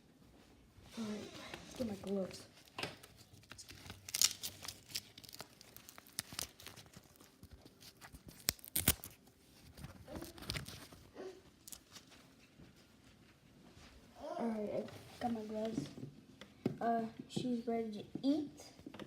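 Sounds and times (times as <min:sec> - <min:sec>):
material crinkling and rustling: 0:00.2 - 0:16.1.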